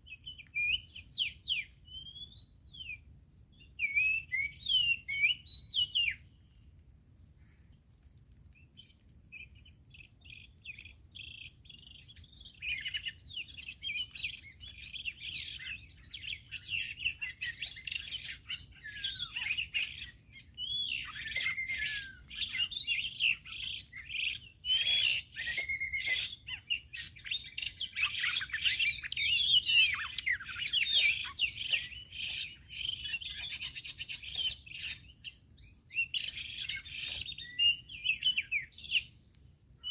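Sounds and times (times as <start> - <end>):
birds chirping and twittering: 0.0 - 6.7, 8.5 - 39.9.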